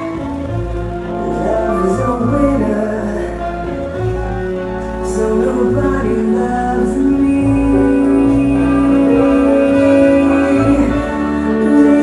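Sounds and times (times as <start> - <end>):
slow song with deep bass: 0.0 - 12.0
person singing: 1.0 - 3.9, 4.8 - 12.0.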